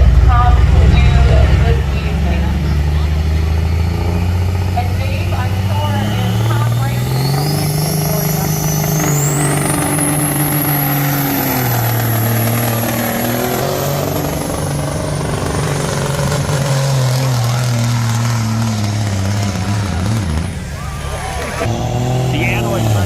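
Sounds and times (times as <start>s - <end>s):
truck engine running hard: 0.0s - 23.0s.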